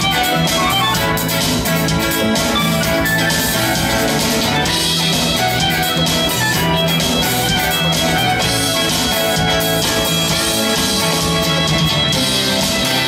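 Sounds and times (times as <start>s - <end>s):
live band instrumental music: 0.0s - 13.0s.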